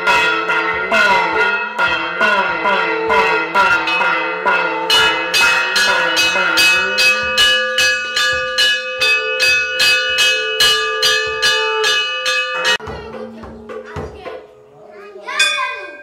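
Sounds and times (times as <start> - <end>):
temple bells ringing: 0.0 - 14.3, 15.3 - 16.0
metal percussion struck rapidly: 0.0 - 14.5, 15.3 - 16.0.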